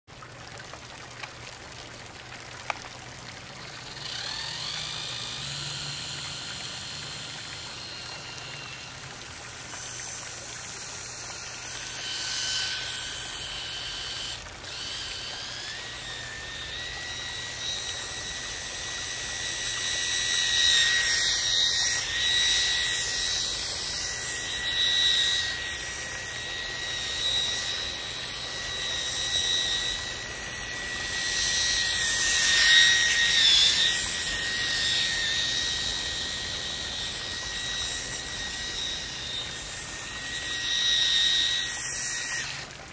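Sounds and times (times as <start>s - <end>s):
toy boat motor whining: 0.1s - 42.9s.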